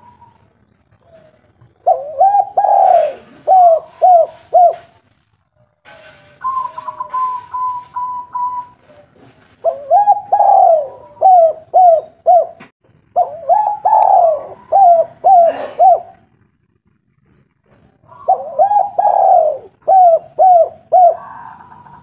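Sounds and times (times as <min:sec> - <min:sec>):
dove cooing: 0:00.0 - 0:05.0, 0:06.4 - 0:16.3, 0:18.0 - 0:22.0.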